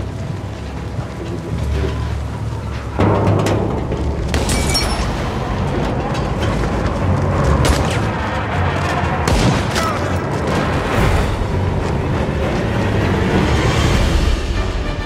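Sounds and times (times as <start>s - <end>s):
deep rumble of storm wind: 0.0s - 15.0s
film music score: 0.0s - 15.0s.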